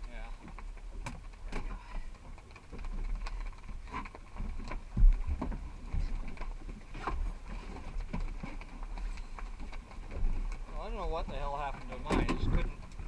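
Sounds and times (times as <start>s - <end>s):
knocks and taps on boat: 0.0s - 13.0s.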